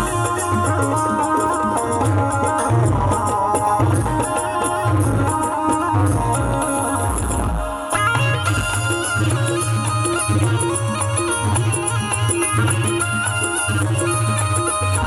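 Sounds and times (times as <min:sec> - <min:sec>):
folk music melody: 0:00.0 - 0:15.0
repeating drum beat: 0:00.0 - 0:15.0.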